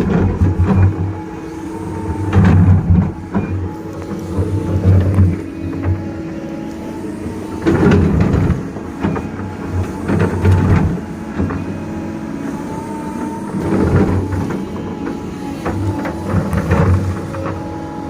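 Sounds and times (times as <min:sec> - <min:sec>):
excavator diesel engine: 0:00.0 - 0:18.0
hydraulic whine: 0:00.0 - 0:18.0.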